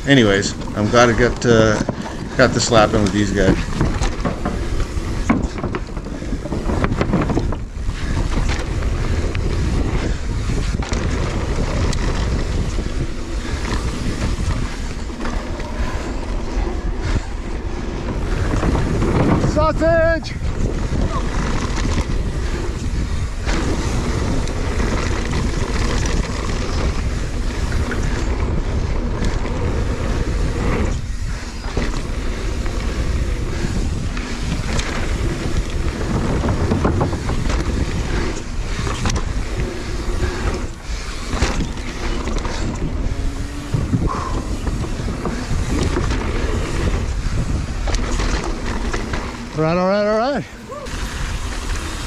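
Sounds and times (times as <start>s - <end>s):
bike knocking and rattling: 0.0s - 52.0s
tyres rushing on dirt trail: 0.0s - 52.0s
wind buffeting microphone: 0.0s - 52.0s.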